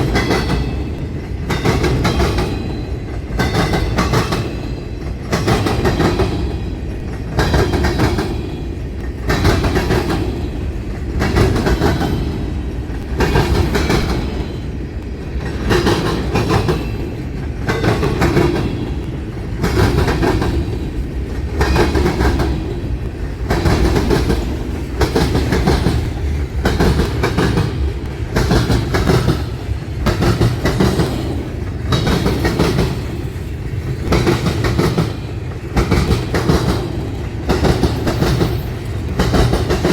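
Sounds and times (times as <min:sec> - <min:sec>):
low rumble of train: 0:00.0 - 0:39.9
train wheels clattering over rail joints: 0:00.0 - 0:39.9.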